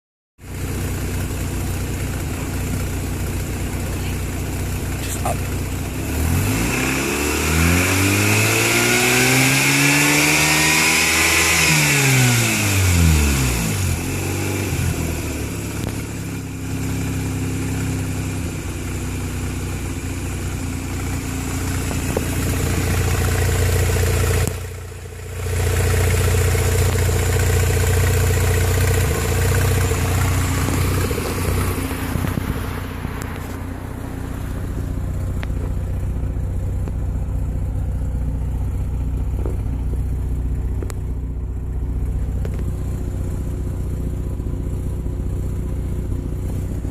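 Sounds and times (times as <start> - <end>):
rotary engine revving and idling: 0.4 - 46.9.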